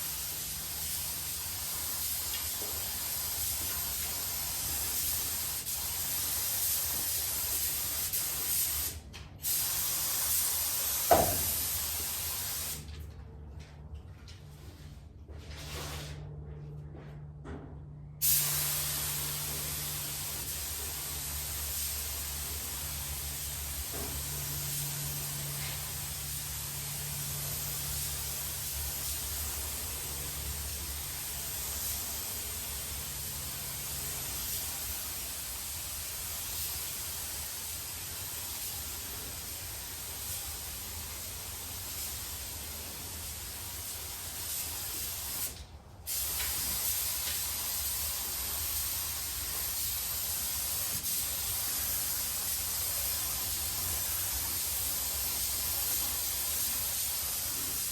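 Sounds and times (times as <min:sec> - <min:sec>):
spray gun hissing: 0:00.0 - 0:12.8, 0:18.2 - 0:57.9.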